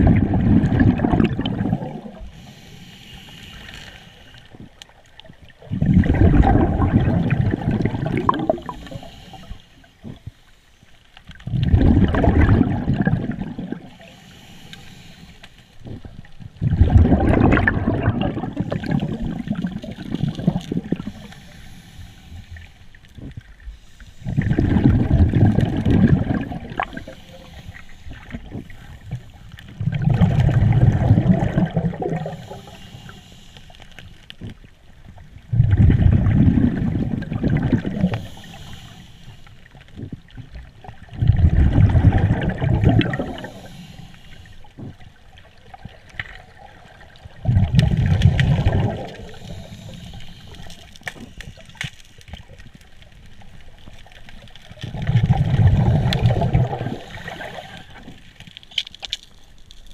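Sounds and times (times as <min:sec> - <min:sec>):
underwater exhaled bubbles: 0:00.0 - 0:59.9.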